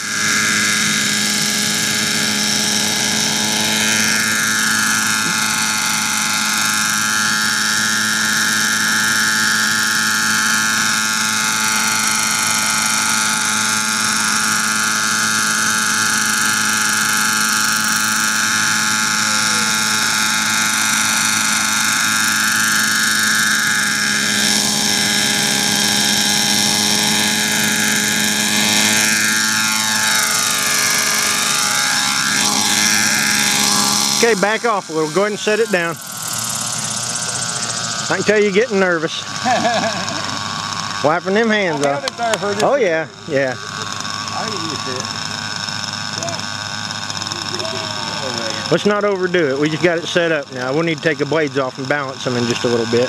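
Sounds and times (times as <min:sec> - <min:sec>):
model helicopter engine whine: 0:00.0 - 0:53.0.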